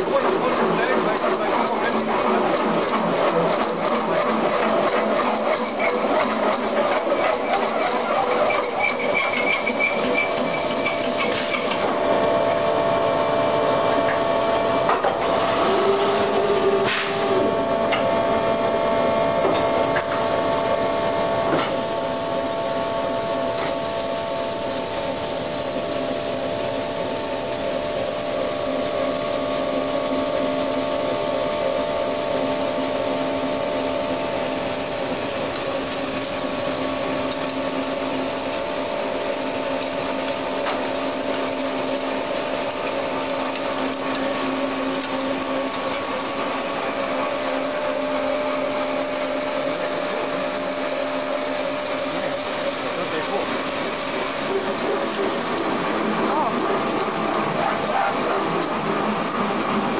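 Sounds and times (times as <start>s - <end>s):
drilling machine hum: 0.0s - 59.9s.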